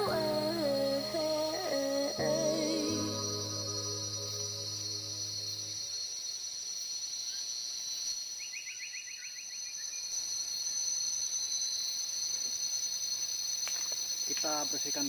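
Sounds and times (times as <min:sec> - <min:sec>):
forest insects droning: 0:00.0 - 0:15.0.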